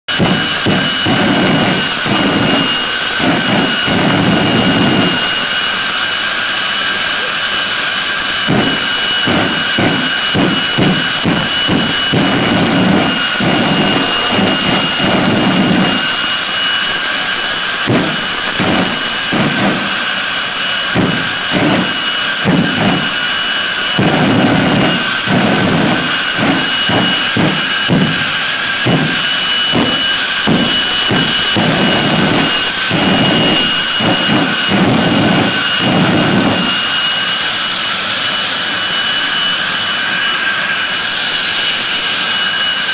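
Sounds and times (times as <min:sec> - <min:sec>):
turbine engine whining: 0:00.0 - 0:42.9
afterburner bursts: 0:00.1 - 0:42.9.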